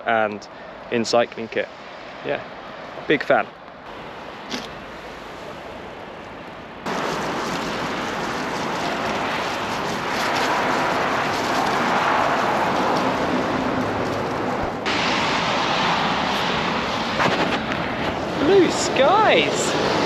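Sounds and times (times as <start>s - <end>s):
wind buffeting microphone: 3.9s - 20.0s.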